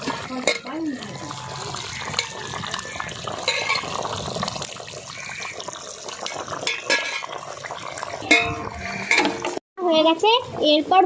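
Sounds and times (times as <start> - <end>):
curry bubbling in a pot: 0.0 - 9.6.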